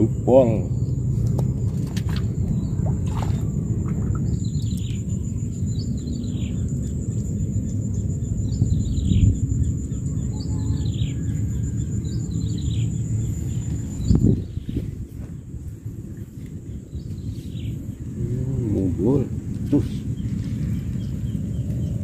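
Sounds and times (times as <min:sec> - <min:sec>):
steady low rumble: 0:00.0 - 0:22.0
bird chirping: 0:02.1 - 0:22.0.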